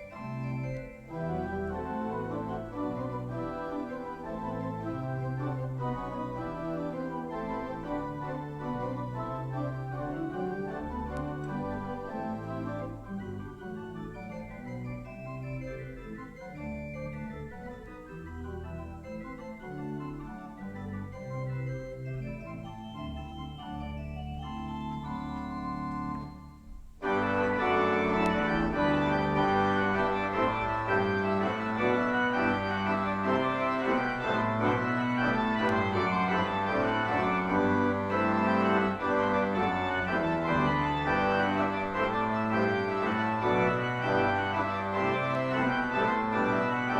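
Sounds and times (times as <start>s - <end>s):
church organ chords: 0.0s - 46.9s.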